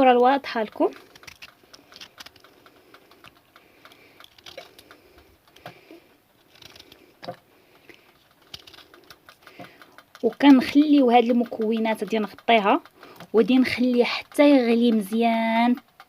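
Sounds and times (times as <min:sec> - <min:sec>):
utensils tapping and clicking: 0:00.0 - 0:06.0, 0:06.7 - 0:16.0.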